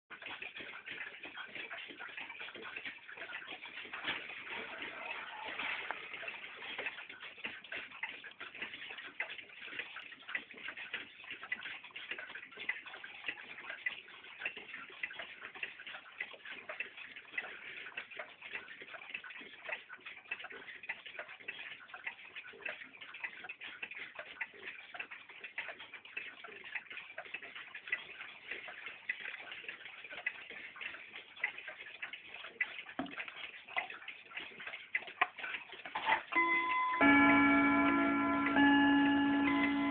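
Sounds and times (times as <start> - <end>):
wall clock ticking: 0.1 - 39.9.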